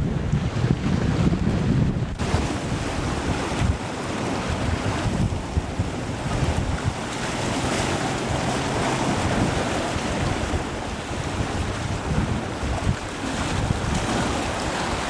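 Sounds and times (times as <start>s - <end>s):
water washing along hull: 0.0s - 15.0s
wind buffeting microphone: 0.0s - 15.0s.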